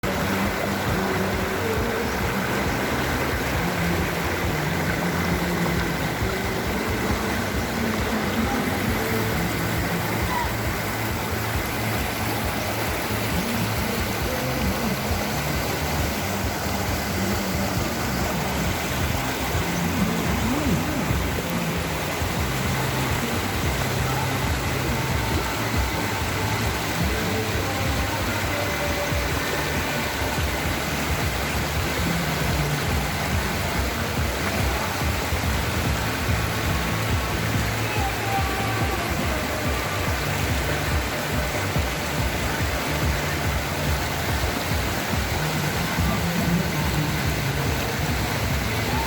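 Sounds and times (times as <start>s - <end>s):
background music: 0.0s - 49.0s
stream water flowing: 0.0s - 49.0s.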